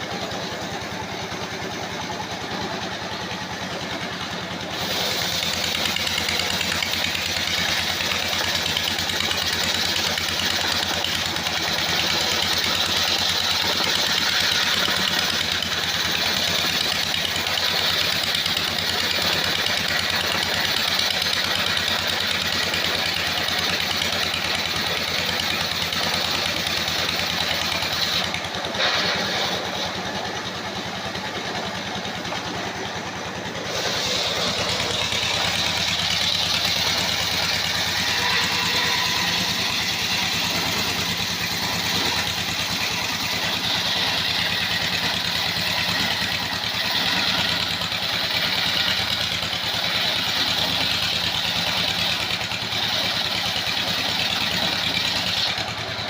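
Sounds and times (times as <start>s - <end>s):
saw hissing: 4.2s - 55.9s.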